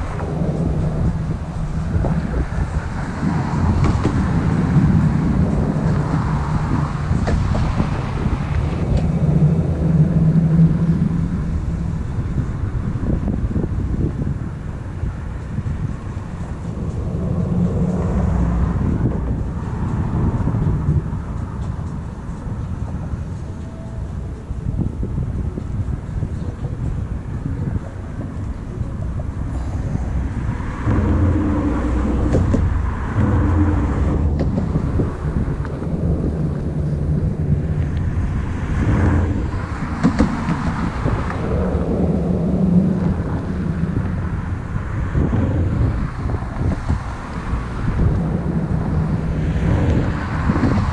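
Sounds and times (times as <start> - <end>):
thunder rumbling: 0.0 - 50.9
wind buffeting microphone: 0.0 - 50.9.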